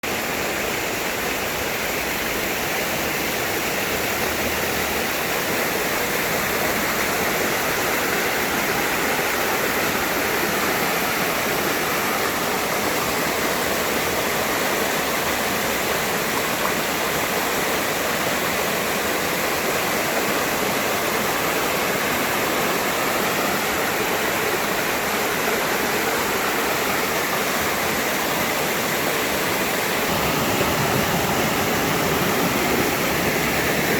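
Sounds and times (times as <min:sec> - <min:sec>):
stream rushing: 0:00.0 - 0:33.9.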